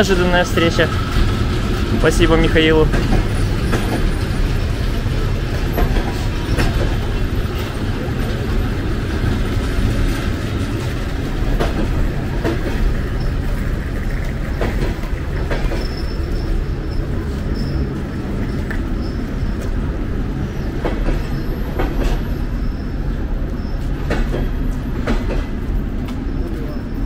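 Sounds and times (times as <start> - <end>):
wheels clacking over rail joints: 0.0 - 22.8, 23.4 - 27.0
train rumbling: 0.0 - 27.0.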